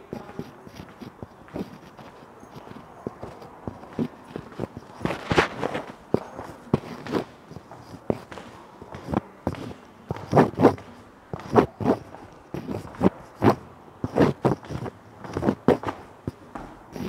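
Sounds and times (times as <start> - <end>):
footsteps on hard stairs: 0.0 - 17.0.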